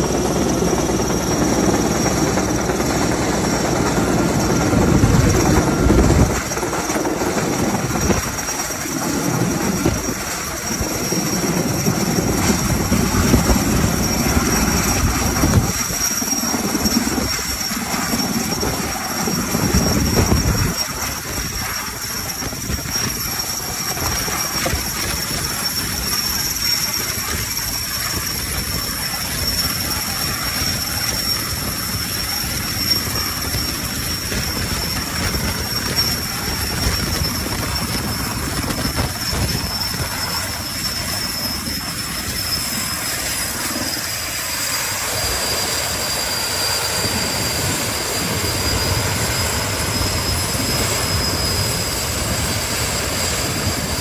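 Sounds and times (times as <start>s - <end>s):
helicopter engine whine: 0.0s - 54.0s
helicopter rotor beat: 0.0s - 54.0s.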